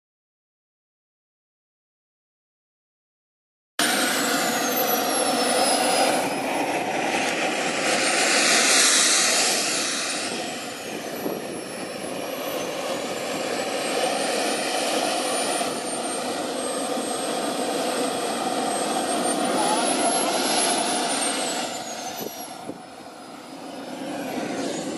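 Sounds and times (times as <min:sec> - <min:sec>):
model jet turbine whining: 0:03.8 - 0:24.9.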